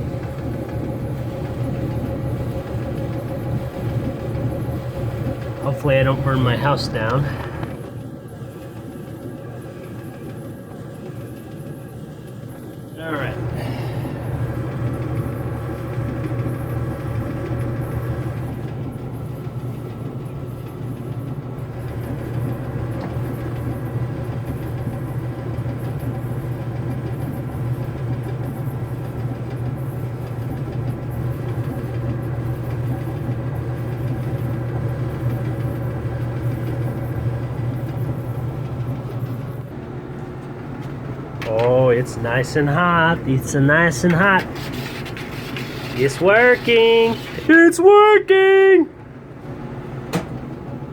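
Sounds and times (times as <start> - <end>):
clothes dryer humming: 0.0 - 50.9.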